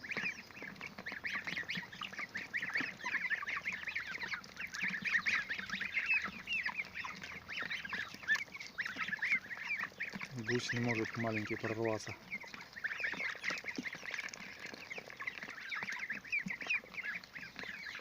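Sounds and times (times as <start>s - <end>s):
young birds peeping: 0.0s - 18.0s.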